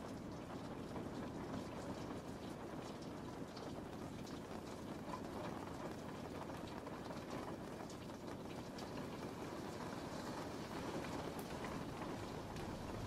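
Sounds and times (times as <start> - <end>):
light ticks of raindrops: 0.0 - 13.0
steady rain hiss: 0.0 - 13.0.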